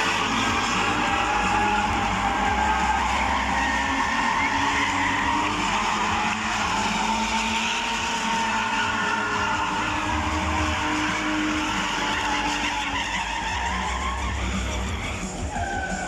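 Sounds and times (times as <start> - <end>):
car engine running under load: 0.0 - 15.6
tyres squealing: 0.0 - 16.0.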